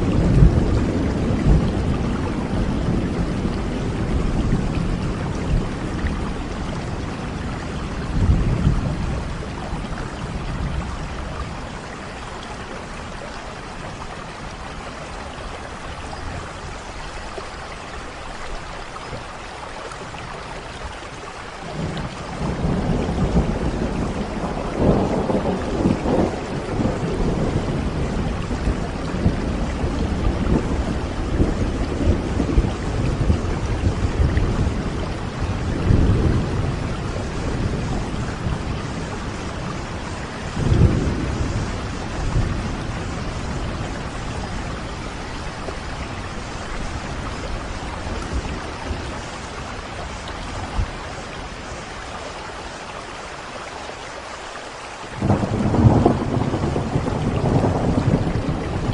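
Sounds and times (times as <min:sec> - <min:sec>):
rolling thunder: 0:00.0 - 0:14.9, 0:21.7 - 0:52.0, 0:55.2 - 0:58.9
rain falling: 0:00.0 - 0:58.9.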